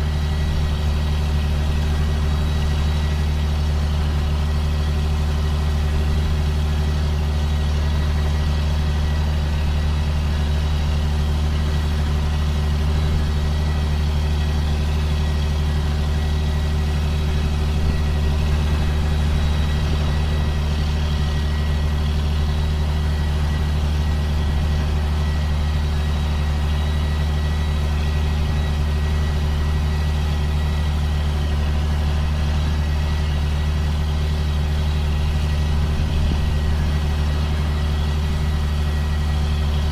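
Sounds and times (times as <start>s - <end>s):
engine low drone: 0.0s - 39.9s.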